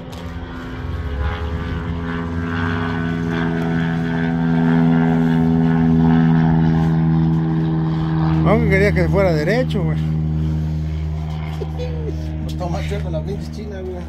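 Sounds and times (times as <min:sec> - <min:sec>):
propeller airplane engine drone: 0:00.0 - 0:14.0.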